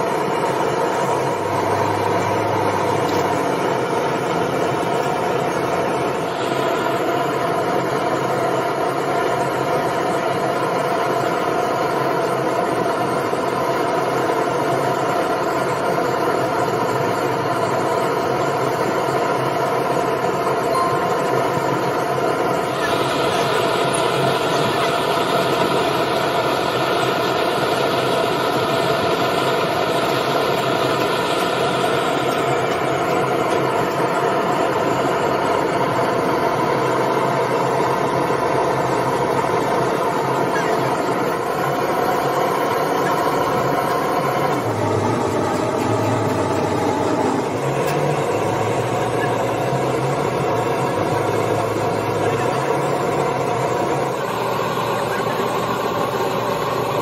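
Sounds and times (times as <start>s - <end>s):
gas torch flame rushing: 0.0s - 20.7s, 21.3s - 57.0s
engine running: 0.0s - 57.0s.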